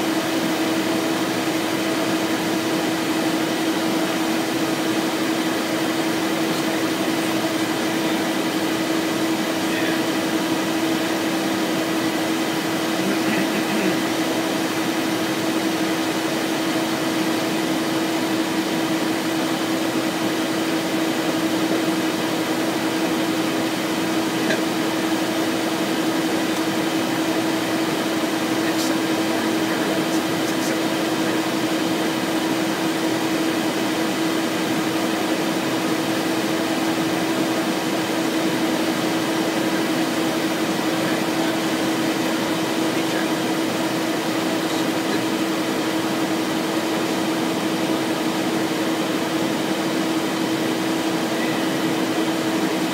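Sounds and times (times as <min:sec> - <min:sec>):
jet cockpit air rush and hum: 0:00.0 - 0:52.9.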